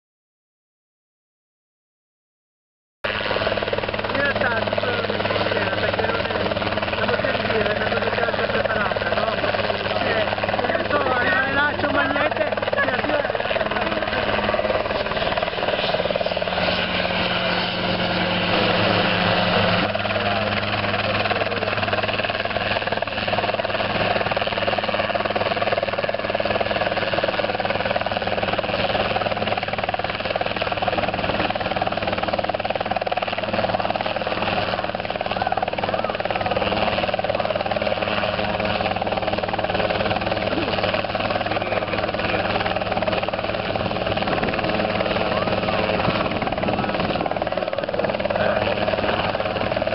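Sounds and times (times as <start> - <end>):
helicopter engine and rotor: 3.0 - 49.9.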